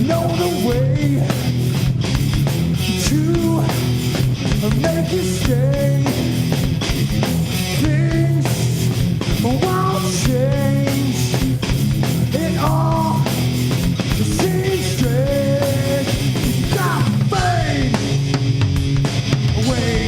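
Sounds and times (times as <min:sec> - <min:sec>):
bass guitar: 0:00.0 - 0:20.0
distorted electric guitar: 0:00.0 - 0:20.0
drum kit: 0:00.0 - 0:20.0.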